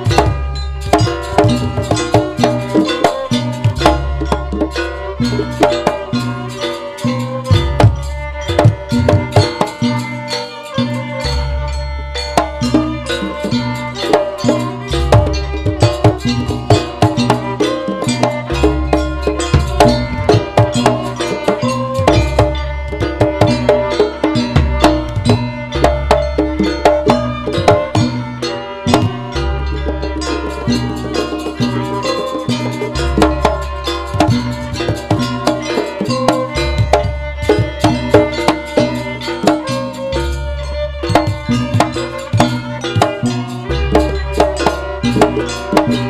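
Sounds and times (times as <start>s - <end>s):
drums and gongs rhythm: 0.0s - 46.0s.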